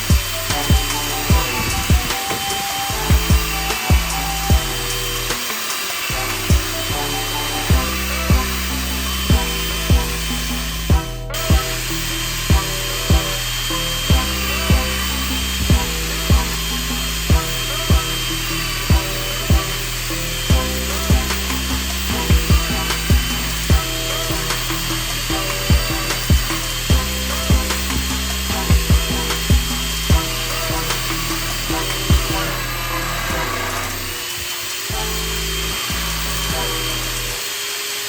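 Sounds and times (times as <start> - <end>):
background music with beat: 0.0 - 37.9
power drill whining: 0.0 - 38.0.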